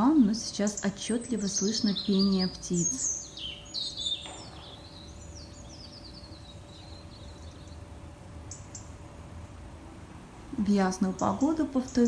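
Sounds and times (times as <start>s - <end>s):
faint low hum: 0.0s - 12.0s
songbirds chirping: 0.0s - 12.0s.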